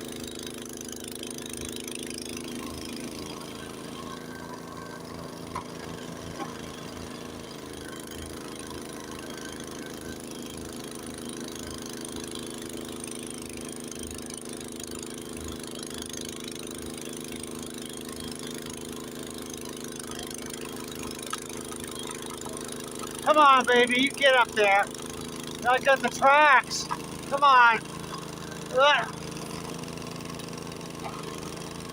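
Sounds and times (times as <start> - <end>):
snowblower engine running: 0.0 - 31.9.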